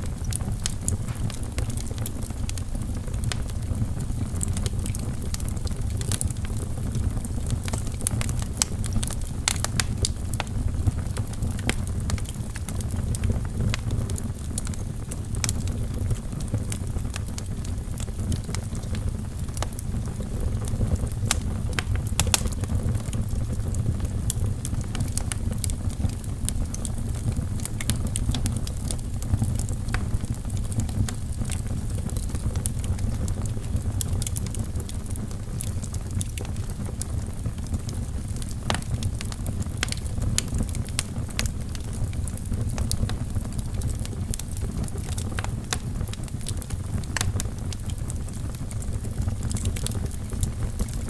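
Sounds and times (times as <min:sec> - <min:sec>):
logs crackling and popping: 0:00.0 - 0:51.0
low rumble of flames: 0:00.0 - 0:51.0.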